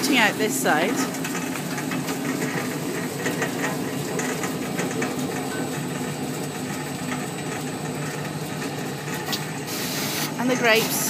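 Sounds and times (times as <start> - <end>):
grape destemmer humming: 0.0 - 11.0.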